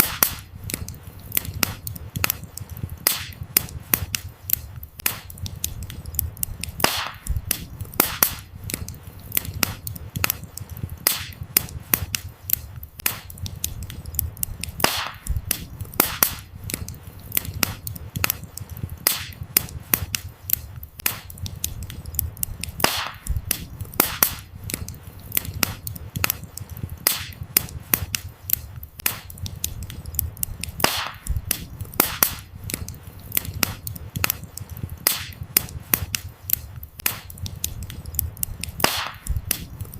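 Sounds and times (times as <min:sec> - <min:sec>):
firewood crackling and popping: 0:00.0 - 0:39.9
low rumble of flames: 0:00.0 - 0:39.9.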